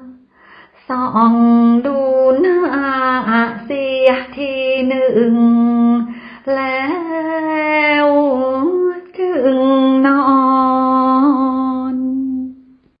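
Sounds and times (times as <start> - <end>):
woman chanting verse: 0.0 - 12.7.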